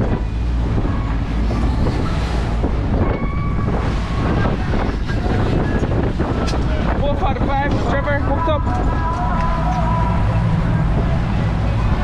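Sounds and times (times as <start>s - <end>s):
water rushing past boat hull: 0.0s - 12.0s
wind rumble on microphone: 0.0s - 12.0s.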